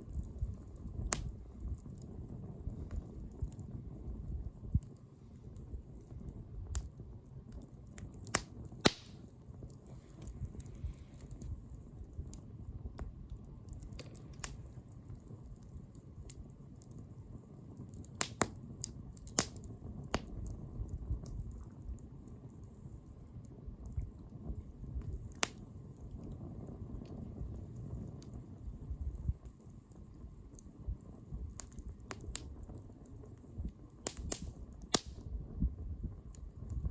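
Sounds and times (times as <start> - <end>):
bonfire crackling and popping: 0.0 - 36.9
fire rumbling: 0.0 - 36.9.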